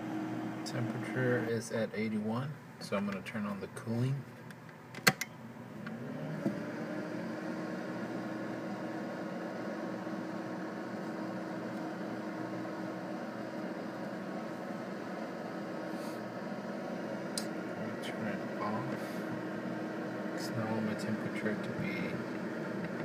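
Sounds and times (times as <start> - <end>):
computer fan humming: 0.0 - 23.0.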